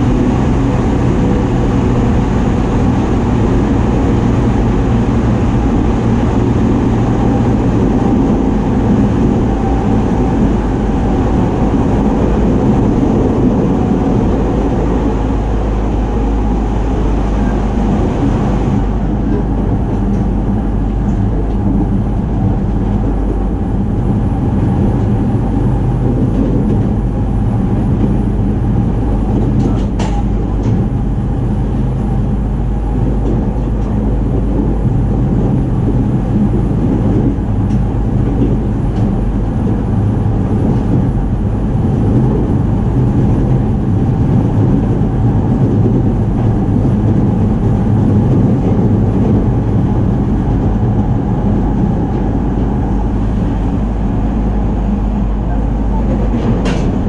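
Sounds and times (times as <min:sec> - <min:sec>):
electric train hum: 0:00.0 - 0:57.0
train wheels rolling on rails: 0:00.0 - 0:57.0.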